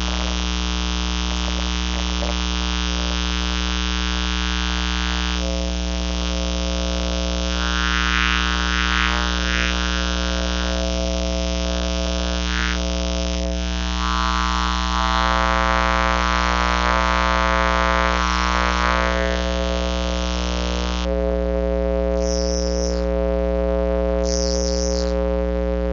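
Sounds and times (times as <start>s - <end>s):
electrical hum and buzz: 0.0s - 25.9s.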